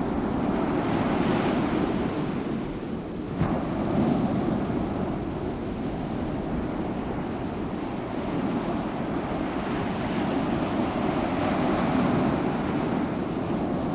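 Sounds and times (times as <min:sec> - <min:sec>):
sea waves washing on shore: 0:00.0 - 0:13.9.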